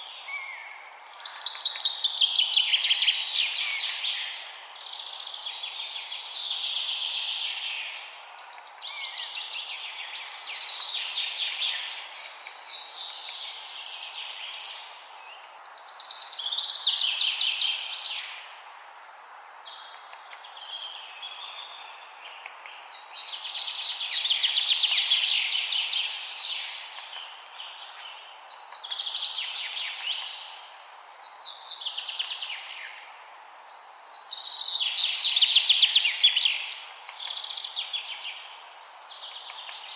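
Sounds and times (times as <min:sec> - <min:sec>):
songbird singing trills: 0:00.0 - 0:39.9
steady background hiss: 0:00.0 - 0:39.9.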